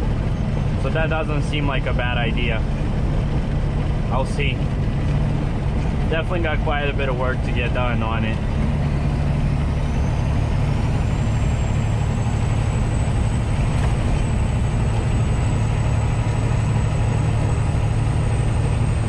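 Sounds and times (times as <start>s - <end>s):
high whine: 0.0s - 19.0s
road noise: 0.0s - 19.0s
truck engine drone: 0.0s - 19.0s.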